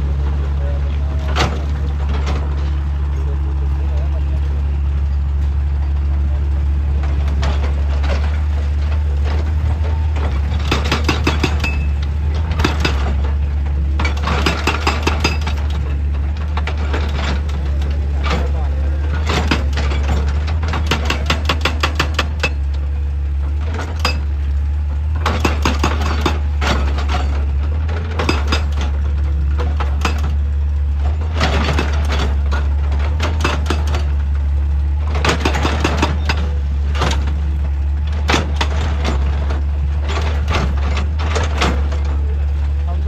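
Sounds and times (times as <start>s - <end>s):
low engine drone: 0.0s - 43.0s.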